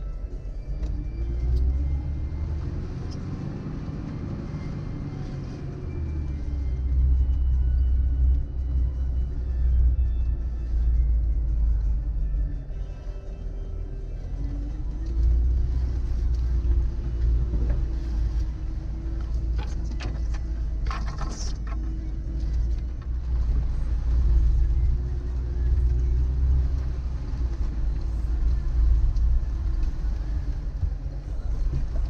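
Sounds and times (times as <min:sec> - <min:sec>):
engine rumbling at low revs: 0:00.0 - 0:32.0.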